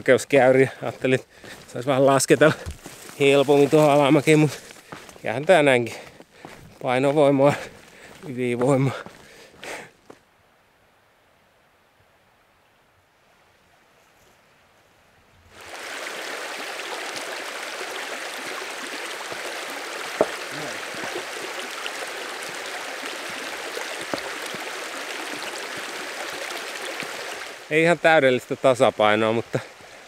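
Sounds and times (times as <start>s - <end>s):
stream water rushing: 0.0s - 9.8s, 15.5s - 30.0s.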